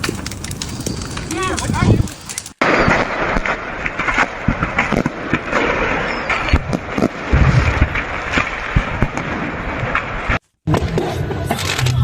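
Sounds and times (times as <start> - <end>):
fireworks crackling and popping: 0.0 - 11.9.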